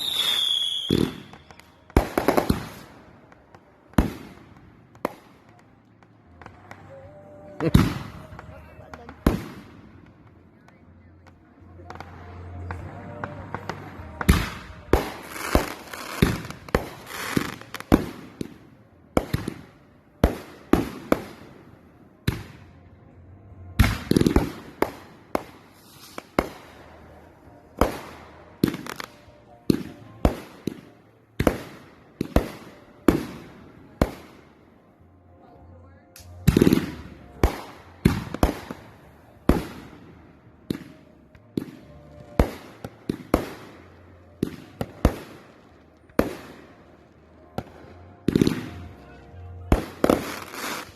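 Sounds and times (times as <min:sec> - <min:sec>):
fireworks bangs with echo: 0:00.0 - 0:10.4, 0:11.2 - 0:21.6, 0:23.7 - 0:34.5, 0:36.2 - 0:46.7, 0:47.6 - 0:50.9
fireworks crackling: 0:00.0 - 0:50.9.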